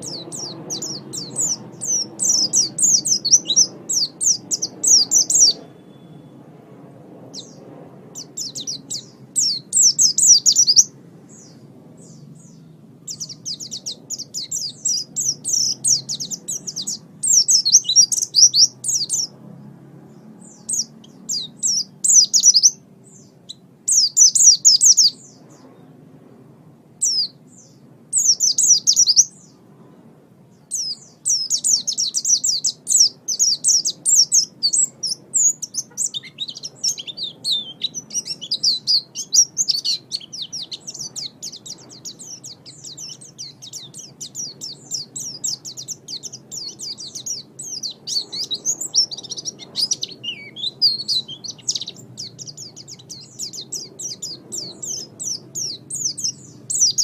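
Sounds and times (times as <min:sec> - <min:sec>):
songbird high-pitched chirping: 0:00.0 - 0:57.0.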